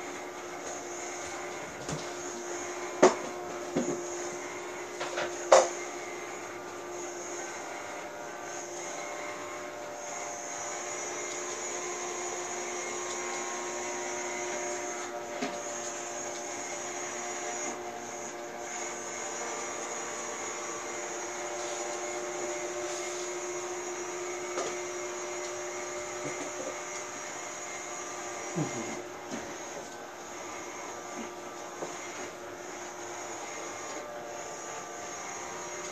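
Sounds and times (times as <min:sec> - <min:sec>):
robot vacuum cleaner running: 0:00.0 - 0:35.9.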